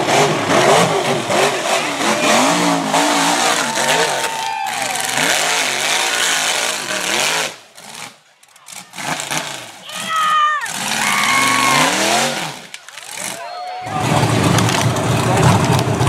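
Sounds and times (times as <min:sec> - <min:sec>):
buggy engine revving hard: 0:00.0 - 0:16.0.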